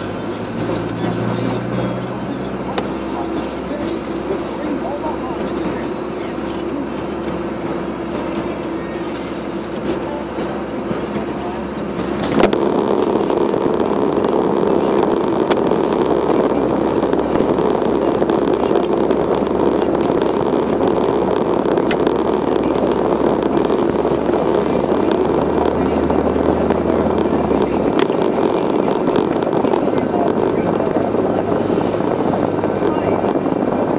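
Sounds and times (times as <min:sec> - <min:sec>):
sharp clicks and rattles: 0:00.0 - 0:33.9
vehicle engine and road noise: 0:00.0 - 0:33.9.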